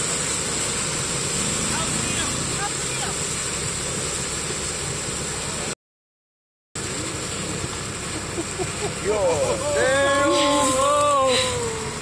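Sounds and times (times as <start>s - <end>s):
churning water rushing: 0.0s - 5.8s, 6.8s - 12.0s
vehicle engine running: 0.0s - 5.8s, 6.8s - 12.0s.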